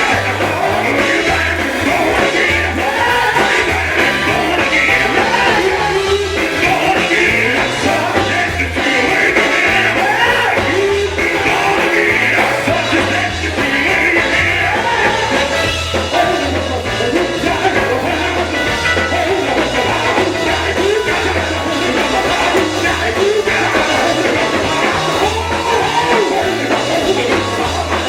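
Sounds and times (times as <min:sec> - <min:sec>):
gospel band playing: 0:00.0 - 0:28.0
pulsing bass line: 0:00.0 - 0:28.0
voices singing: 0:00.0 - 0:28.0.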